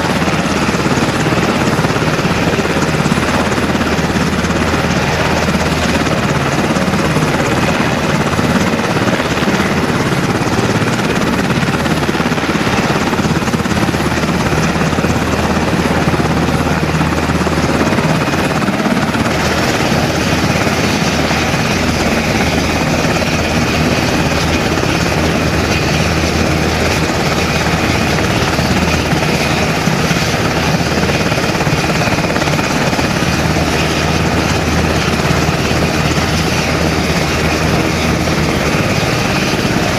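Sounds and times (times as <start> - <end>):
helicopter rotor noise: 0.0 - 39.9
helicopter turbine engine whine: 0.0 - 39.9.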